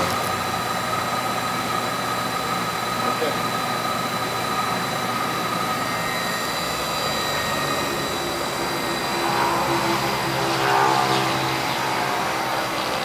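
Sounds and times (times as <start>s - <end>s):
motor whine: 0.0s - 13.0s
router steady mechanical whir: 0.0s - 13.0s.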